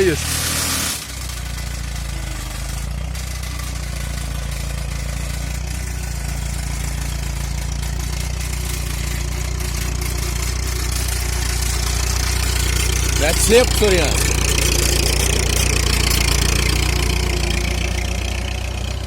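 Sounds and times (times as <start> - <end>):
engine idling with low rumble: 0.0 - 19.0.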